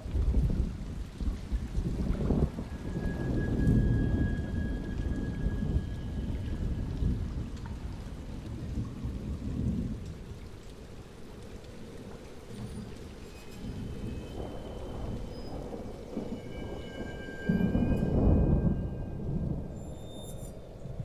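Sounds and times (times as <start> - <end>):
low rolling rumble: 0.0 - 21.0.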